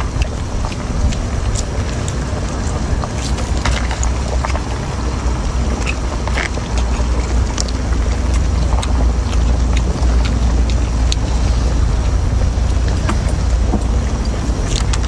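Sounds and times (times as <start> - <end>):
shellfish shell cracking and chewing: 0.0 - 15.0
steady low rumble: 0.0 - 15.0.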